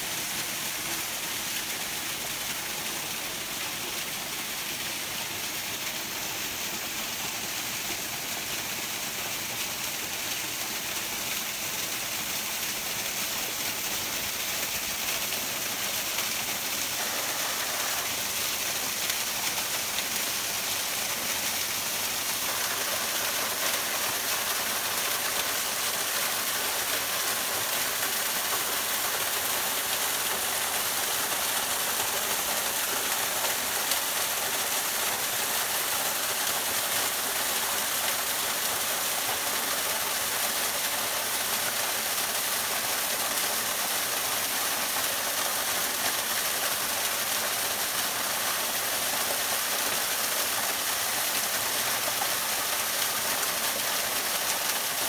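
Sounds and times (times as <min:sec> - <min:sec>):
waterfall splashing into pool: 0:00.0 - 0:55.0.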